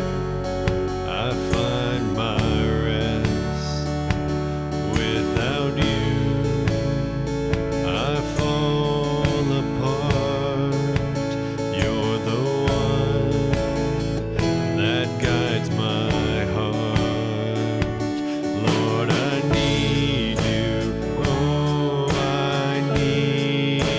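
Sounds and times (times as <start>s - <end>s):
praise band playing: 0.0s - 23.9s
strummed acoustic guitar: 0.0s - 23.9s.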